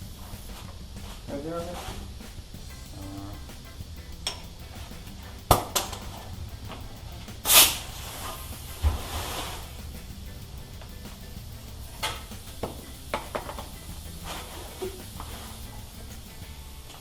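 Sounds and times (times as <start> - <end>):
low thud: 0.0 - 16.2
loud hissing rush: 0.0 - 17.0.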